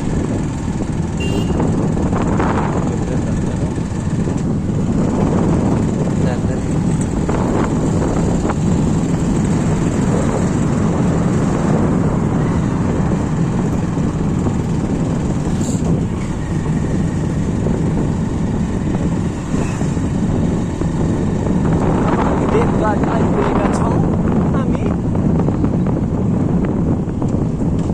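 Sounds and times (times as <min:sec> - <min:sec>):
road noise: 0:00.0 - 0:27.9
vehicle engine hum: 0:00.0 - 0:27.9.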